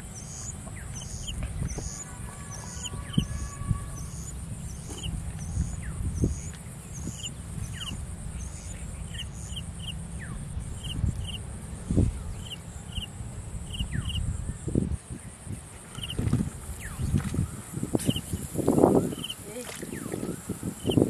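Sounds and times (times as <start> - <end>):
low rumble: 0.0 - 19.1
birds chirping: 0.0 - 21.0
high insect drone: 0.0 - 21.0.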